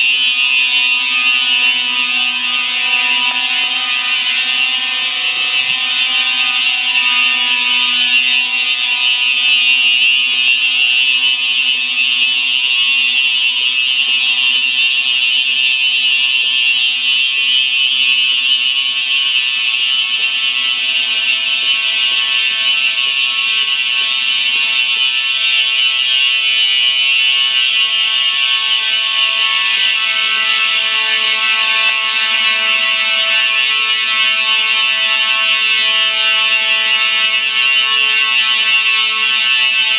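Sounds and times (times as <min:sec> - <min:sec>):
fire alarm bells ringing: 0:00.0 - 0:39.9.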